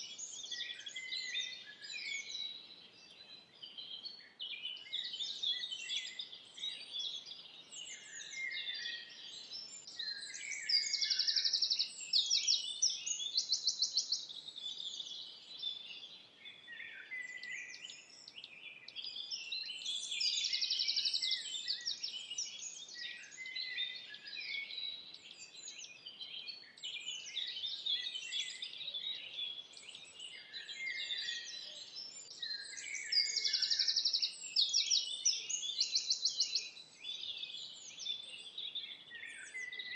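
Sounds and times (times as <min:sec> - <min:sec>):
songbirds singing in chorus: 0:00.0 - 0:39.9.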